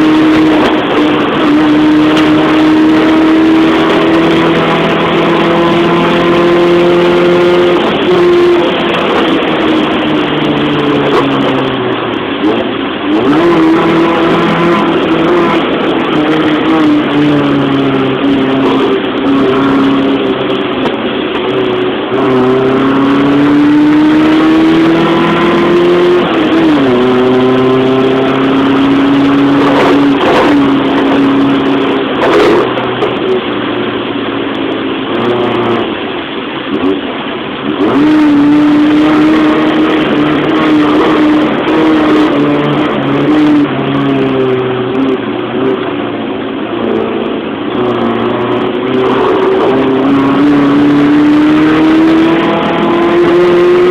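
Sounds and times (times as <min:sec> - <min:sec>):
car engine accelerating through gears: 0:00.0 - 0:53.9.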